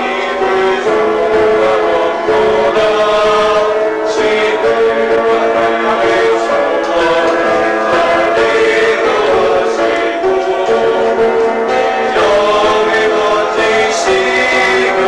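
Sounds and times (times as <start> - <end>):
youth choir singing: 0.0 - 15.0.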